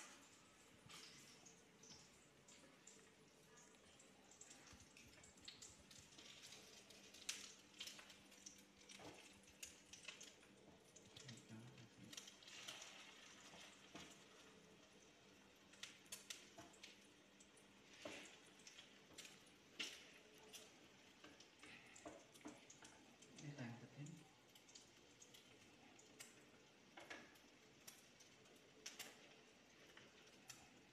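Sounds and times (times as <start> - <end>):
eggs sizzling in a wok: 0.0 - 30.9.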